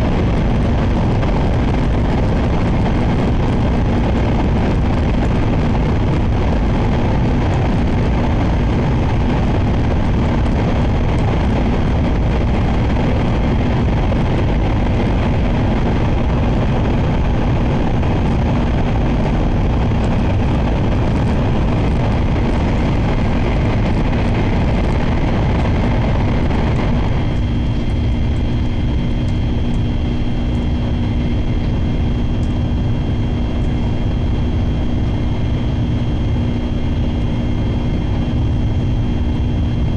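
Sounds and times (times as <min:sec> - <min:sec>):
steady train hum: 0:00.0 - 0:39.9.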